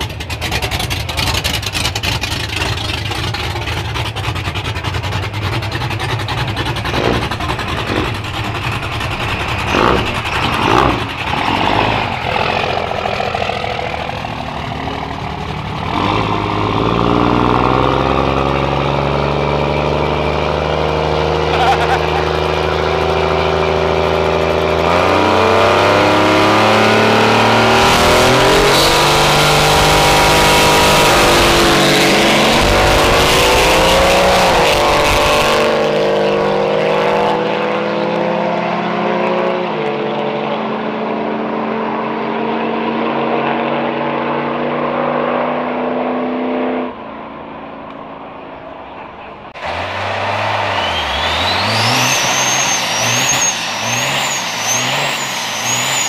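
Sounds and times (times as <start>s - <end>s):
racing engine revving: 0.0s - 47.0s, 47.9s - 56.0s.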